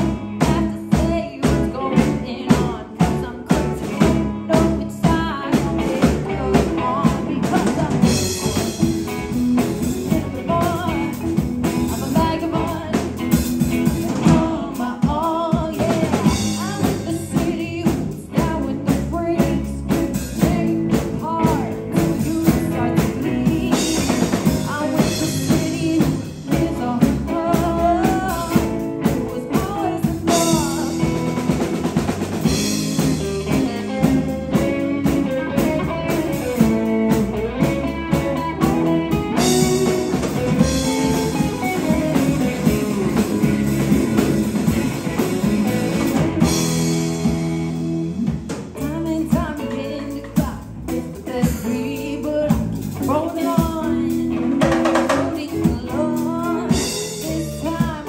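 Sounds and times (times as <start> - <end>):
drum kit: 0.0 - 58.0
electric bass: 0.0 - 58.0
electric guitars: 0.0 - 58.0
woman singing lead: 0.0 - 58.0.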